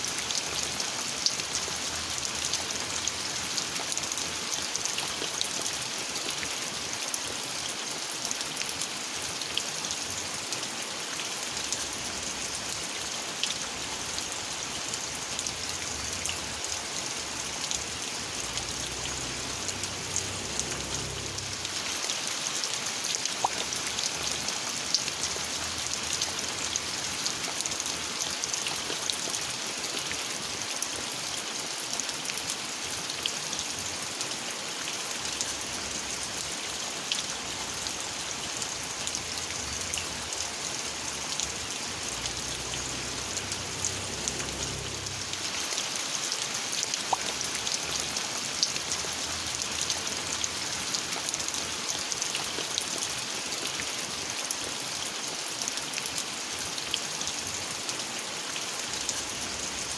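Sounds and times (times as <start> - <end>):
steady rain hiss: 0.0 - 59.9
raindrops clicking close by: 0.1 - 59.9.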